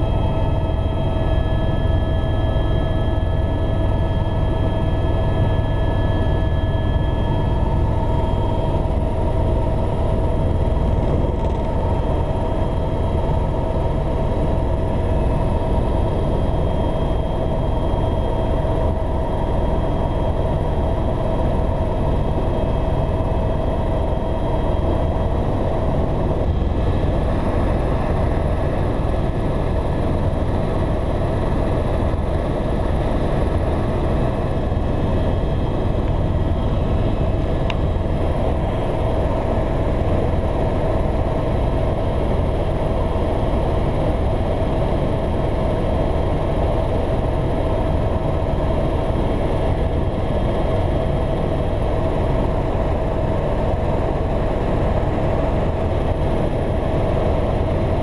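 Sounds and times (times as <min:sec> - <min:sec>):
helicopter cabin rumble: 0:00.0 - 0:58.0
helicopter high whine: 0:00.0 - 0:58.0.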